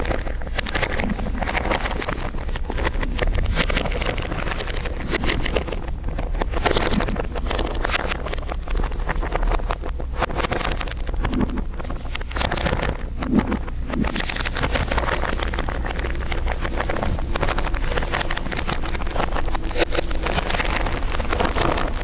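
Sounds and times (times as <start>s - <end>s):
dense crinkling crackle: 0.0s - 22.0s.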